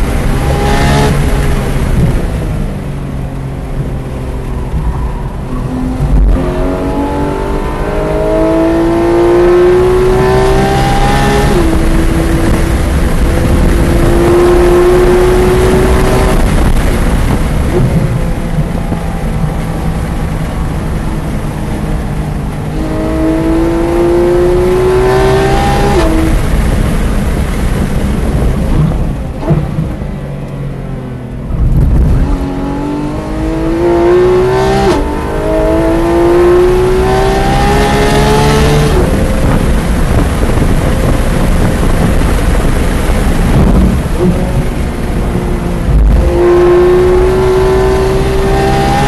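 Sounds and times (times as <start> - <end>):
car engine revving at full throttle: 0.0 - 49.0.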